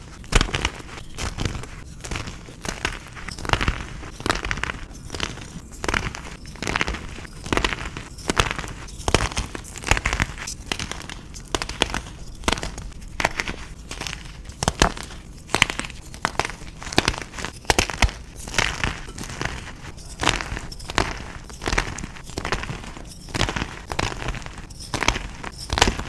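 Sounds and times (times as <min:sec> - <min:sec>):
chalk crunching and crackling: 0:00.0 - 0:26.0.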